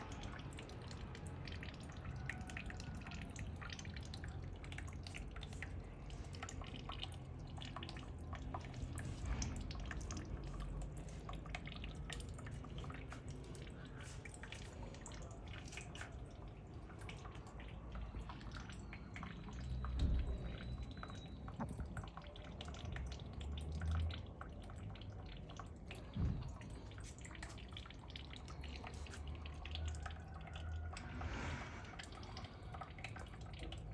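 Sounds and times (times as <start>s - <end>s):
water dripping and trickling: 0.0s - 33.9s.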